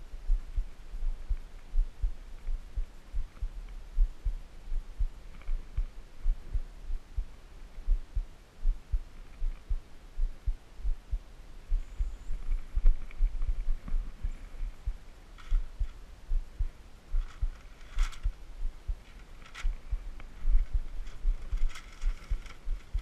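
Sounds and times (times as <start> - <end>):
dull low thumps: 0.0 - 23.0
faint hum: 0.0 - 23.0.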